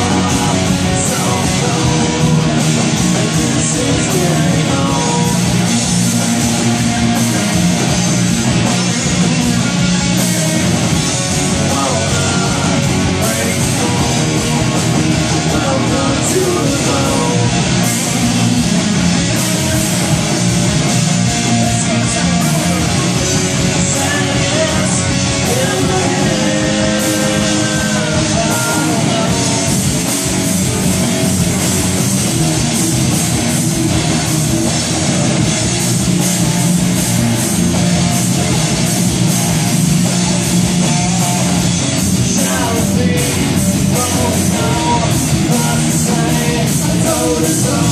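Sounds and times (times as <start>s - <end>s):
drum kit: 0.0s - 47.9s
electric guitars: 0.0s - 47.9s.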